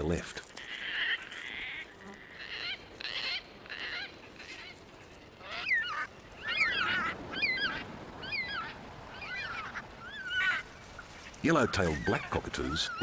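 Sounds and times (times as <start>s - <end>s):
cockatoos calling: 0.5s - 13.0s.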